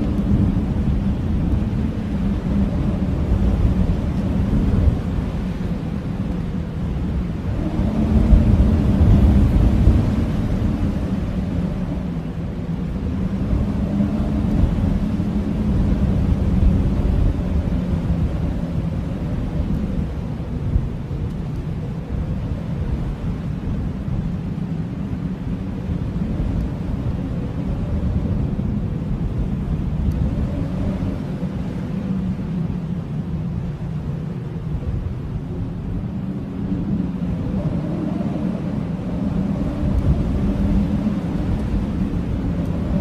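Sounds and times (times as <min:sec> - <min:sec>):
howling blizzard wind: 0:00.0 - 0:43.0.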